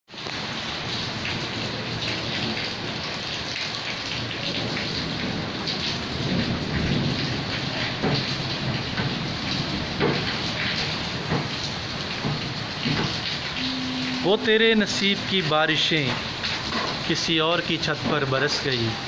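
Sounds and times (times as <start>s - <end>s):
drips and splashes: 0.1s - 19.0s
rain pouring on street: 0.1s - 19.0s.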